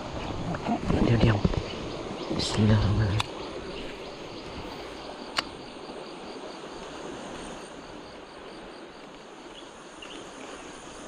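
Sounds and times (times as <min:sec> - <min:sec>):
crickets trilling: 0:00.0 - 0:11.0
rustling hiss: 0:00.0 - 0:11.0.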